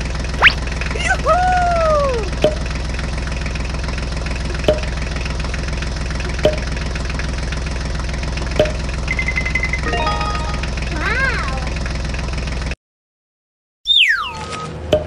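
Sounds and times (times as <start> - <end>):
tractor engine idling: 0.0 - 12.8.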